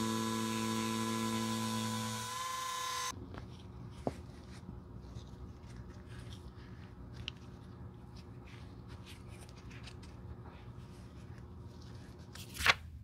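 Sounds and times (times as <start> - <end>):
low steady hum: 0.0 - 12.6.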